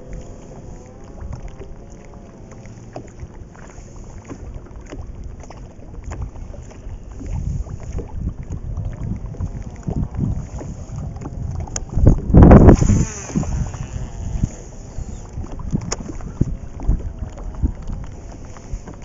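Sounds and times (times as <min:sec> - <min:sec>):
small clicks and splashes: 0:00.0 - 0:19.0
water lapping against boat: 0:00.0 - 0:19.0
wind buffeting microphone: 0:00.0 - 0:19.0.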